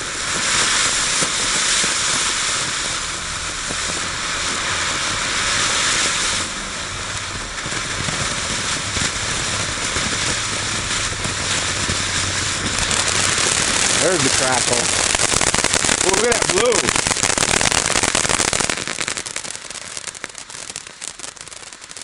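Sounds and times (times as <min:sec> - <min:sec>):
fountain firework hissing: 0:00.0 - 0:22.0.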